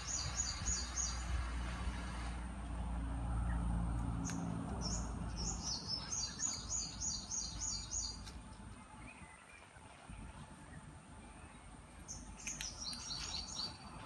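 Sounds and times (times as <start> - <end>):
songbird chirping: 0.0 - 1.4, 3.3 - 14.0
low steady hum: 0.0 - 14.0.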